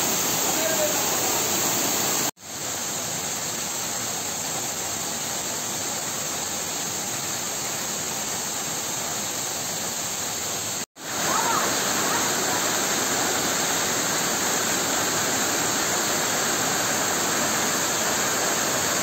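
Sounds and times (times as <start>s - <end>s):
waterfall pouring and splashing: 0.0s - 19.0s.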